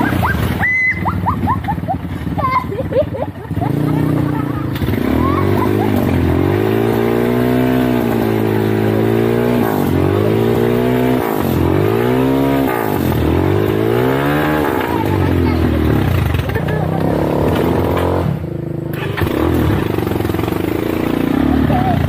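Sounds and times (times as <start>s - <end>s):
quad bike engine revving: 0.0s - 22.0s.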